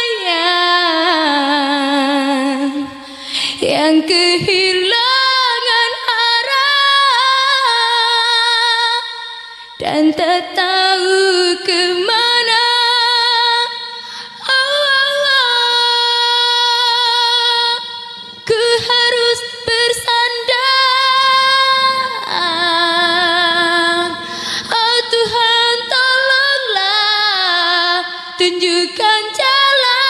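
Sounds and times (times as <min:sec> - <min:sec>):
woman singing a cappella: 0:00.0 - 0:30.0.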